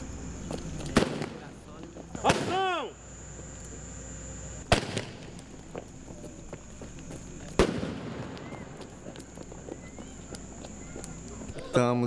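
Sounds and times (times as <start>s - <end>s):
firecrackers banging: 0.0s - 11.7s.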